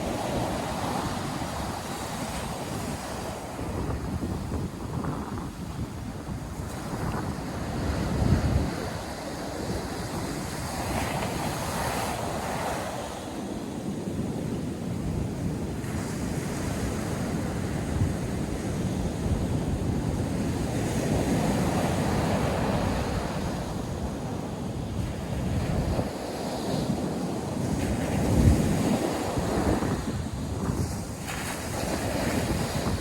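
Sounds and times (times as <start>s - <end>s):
surf breaking on a sandy beach: 0.0s - 33.0s
wind buffeting the microphone: 0.0s - 33.0s.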